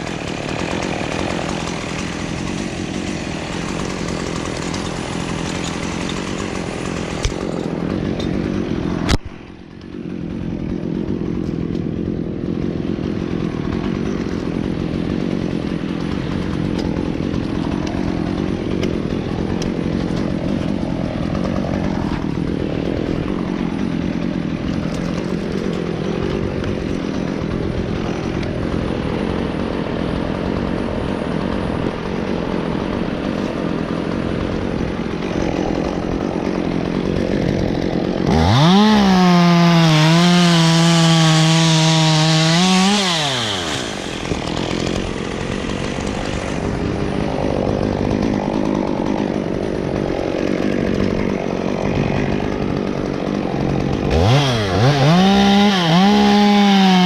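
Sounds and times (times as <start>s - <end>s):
chainsaw running: 0.0s - 57.0s.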